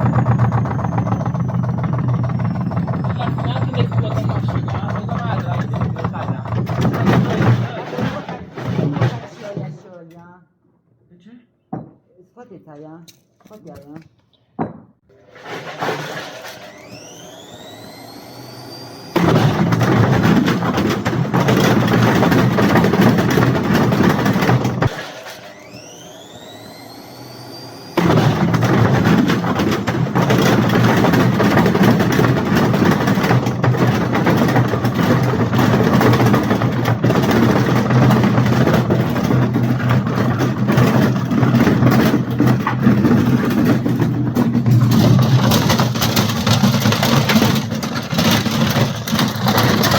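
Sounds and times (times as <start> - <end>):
washing machine loud rough running: 0.0 - 9.8, 15.1 - 49.9
washing machine motor whining: 0.0 - 9.8, 15.1 - 49.9.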